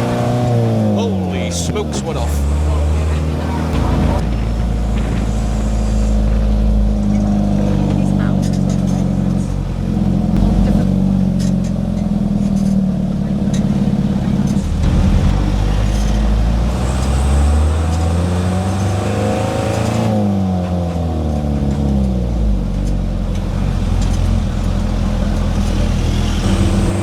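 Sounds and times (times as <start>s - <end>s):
truck engine revving under load: 0.0s - 27.0s.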